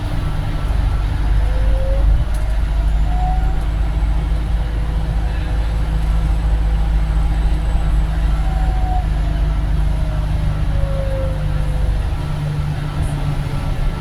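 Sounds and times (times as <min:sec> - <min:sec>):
bus engine drone: 0:00.0 - 0:14.0.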